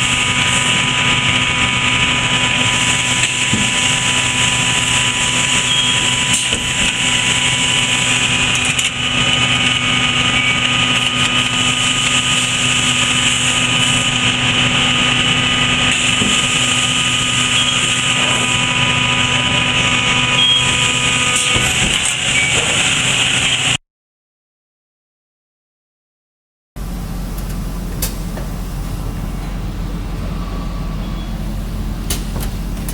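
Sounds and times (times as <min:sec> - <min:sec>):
machine hum with tones: 0:00.0 - 0:23.8, 0:26.8 - 0:32.9.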